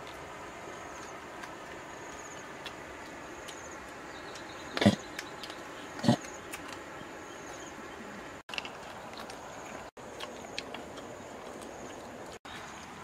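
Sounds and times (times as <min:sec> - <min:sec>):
dogs feeding: 0:00.0 - 0:13.0.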